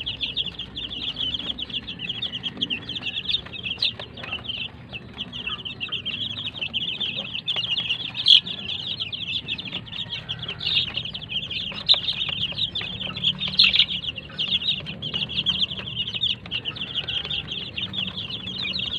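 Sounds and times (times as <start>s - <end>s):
chicks peeping: 0.0s - 18.9s.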